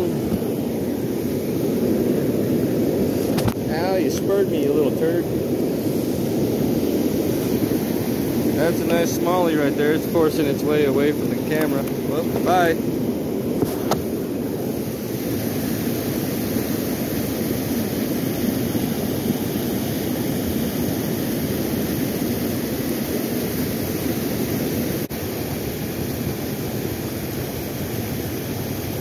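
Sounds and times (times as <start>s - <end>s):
water rushing over a weir: 0.0s - 29.0s.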